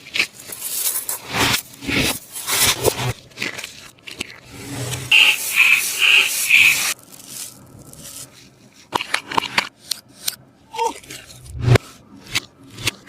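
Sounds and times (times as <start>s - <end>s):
squishy toy scraping and rubbing: 0.0s - 10.4s, 11.0s - 13.0s.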